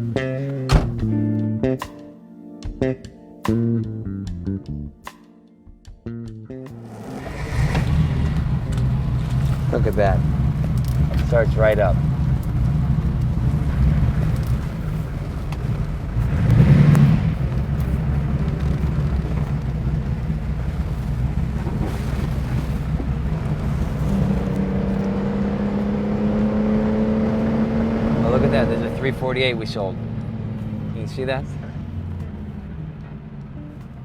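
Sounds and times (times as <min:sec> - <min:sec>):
car engine rumbling: 0:06.7 - 0:34.0.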